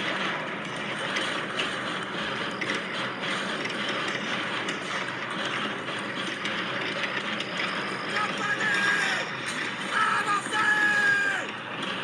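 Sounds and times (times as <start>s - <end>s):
dense battle clatter and crackle: 0.0s - 12.0s.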